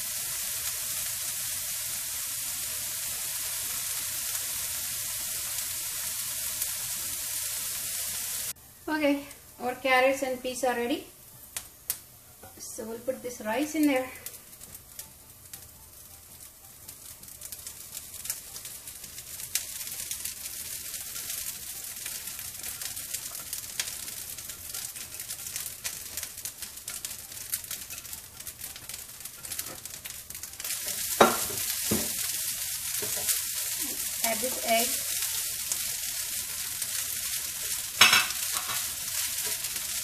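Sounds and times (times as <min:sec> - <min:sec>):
vegetables sizzling in frying pan: 0:00.0 - 0:40.0.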